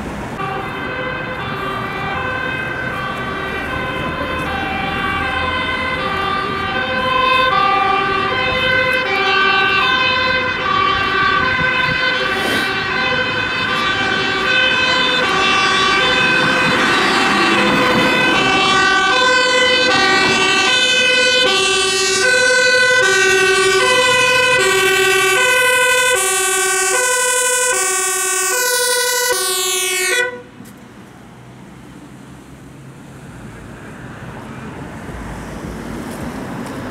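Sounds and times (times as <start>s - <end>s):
vehicle passing with engine noise: 0.0s - 36.9s
two-tone emergency sirens: 0.3s - 30.6s.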